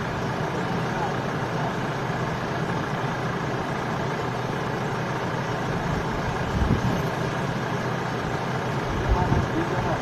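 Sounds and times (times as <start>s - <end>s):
vehicle engines idling: 0.0s - 10.0s.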